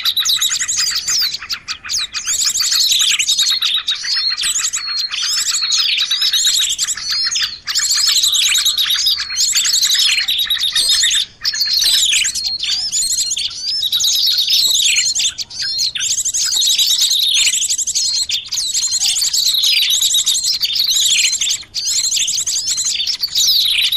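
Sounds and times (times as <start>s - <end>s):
downward whistled bird notes: 0.0s - 23.9s
songbird chirping trills: 0.0s - 23.9s.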